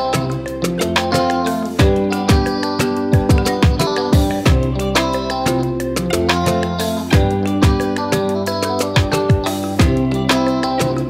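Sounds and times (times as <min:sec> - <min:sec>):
music with kick drum beat: 0:00.0 - 0:11.0.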